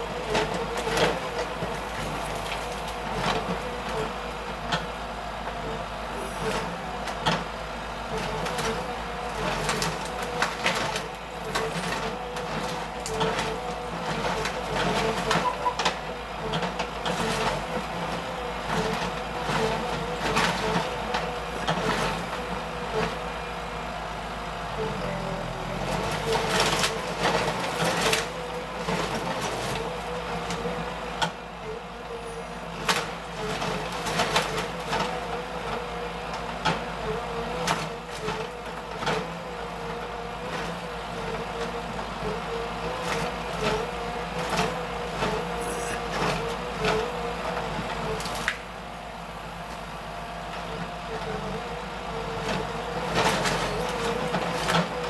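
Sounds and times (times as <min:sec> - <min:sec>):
diesel engine and hydraulics: 0:00.0 - 0:55.0.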